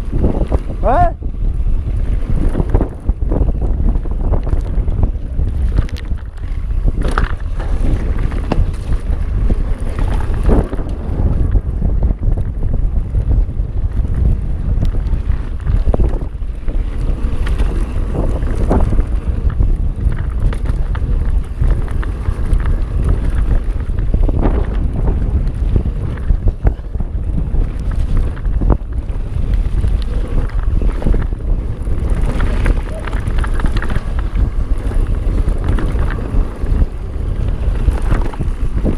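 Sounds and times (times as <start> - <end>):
bike knocking and rattling: 0.0 - 38.9
tyres rumbling on dirt trail: 0.0 - 38.9
wind buffeting microphone: 0.0 - 38.9.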